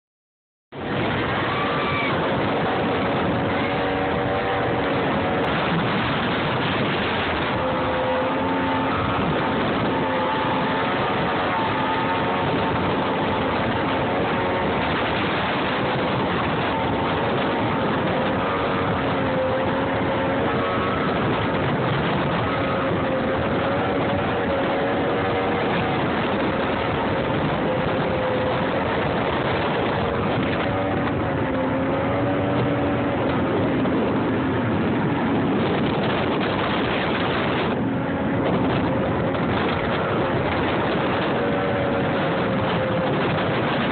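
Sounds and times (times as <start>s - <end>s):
motorboat engine running: 0.7s - 43.9s
rush of wind and water: 0.7s - 43.9s.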